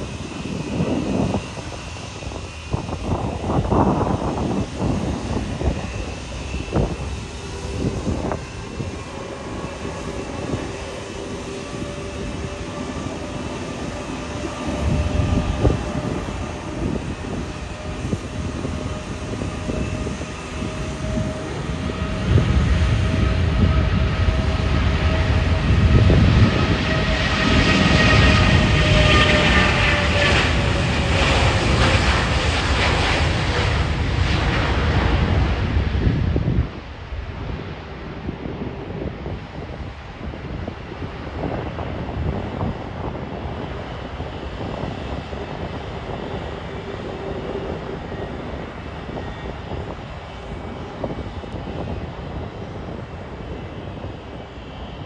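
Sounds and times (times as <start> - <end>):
jet engine whine: 0.0 - 55.0
jet rumble: 0.0 - 55.0.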